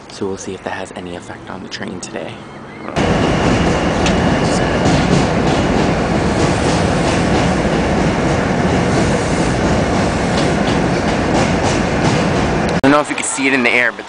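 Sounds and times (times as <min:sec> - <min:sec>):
subway train on tracks: 0:00.0 - 0:14.0.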